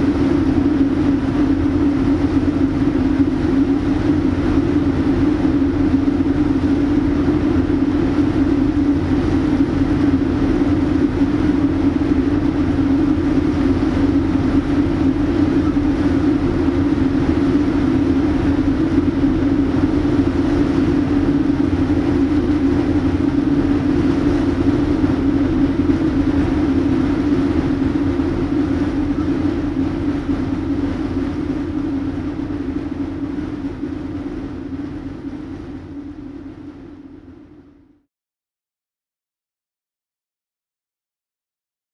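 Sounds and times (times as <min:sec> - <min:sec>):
machinery drone: 0:00.0 - 0:37.7.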